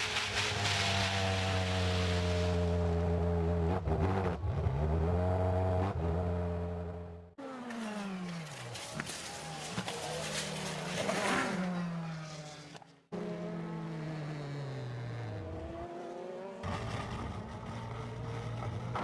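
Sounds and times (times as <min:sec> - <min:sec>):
race car engines decelerating: 0:00.1 - 0:19.0.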